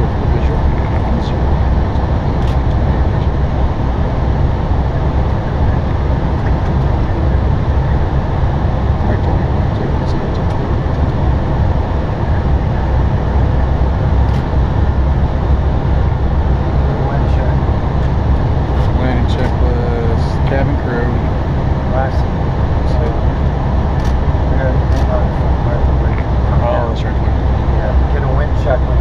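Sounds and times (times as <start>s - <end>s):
airflow over aircraft: 0.0s - 29.0s
jet engines running: 0.0s - 29.0s.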